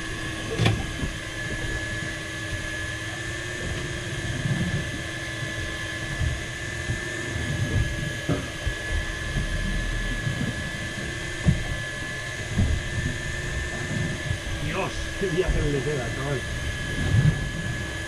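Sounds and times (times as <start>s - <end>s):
motor whine: 0.0s - 18.0s.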